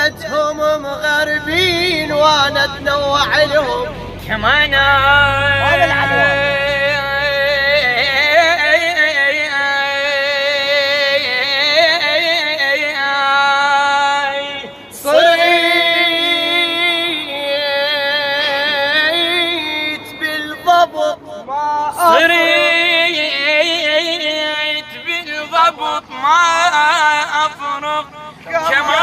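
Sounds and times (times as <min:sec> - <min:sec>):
person singing ornamented melody: 0:00.0 - 0:13.9, 0:14.6 - 0:29.0.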